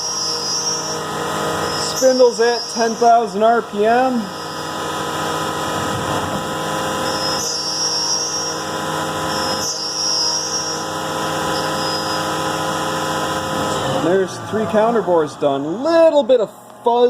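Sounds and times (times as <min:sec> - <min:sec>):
mill spindle whine: 0:00.0 - 0:17.0.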